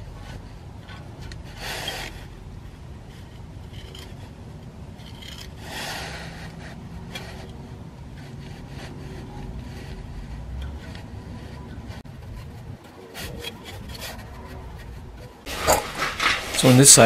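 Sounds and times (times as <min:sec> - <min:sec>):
applicator scraping epoxy: 0:00.2 - 0:17.0.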